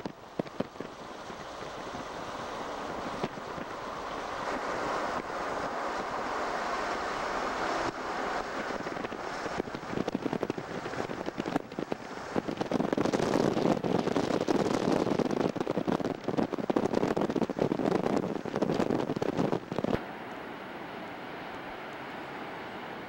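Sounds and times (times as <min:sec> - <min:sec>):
wind buffeting microphone: 0:00.0 - 0:20.0
car road and wind noise: 0:00.0 - 0:23.0.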